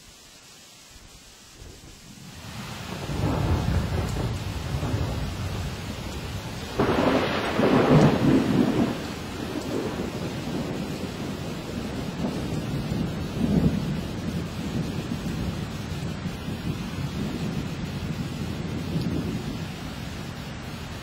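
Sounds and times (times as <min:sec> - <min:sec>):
steady rain: 0:00.0 - 0:21.0
thunder clap and rumble: 0:02.8 - 0:21.0.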